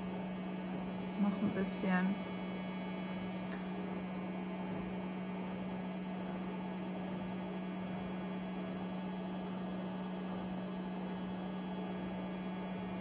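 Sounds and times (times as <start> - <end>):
washing machine spinning hum: 0.0 - 13.0.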